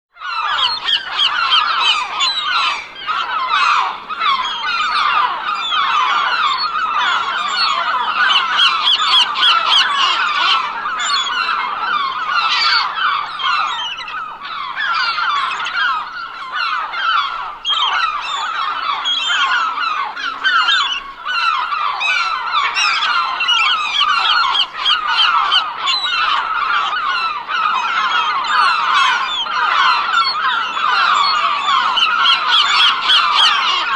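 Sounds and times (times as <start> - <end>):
flock of gulls calling: 0.2 - 33.9.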